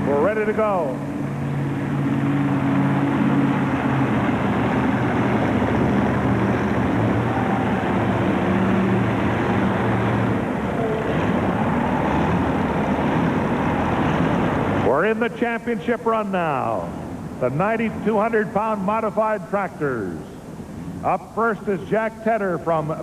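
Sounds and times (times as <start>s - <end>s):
arena noise: 0.0s - 23.0s
tractor engines running steadily: 0.0s - 23.0s.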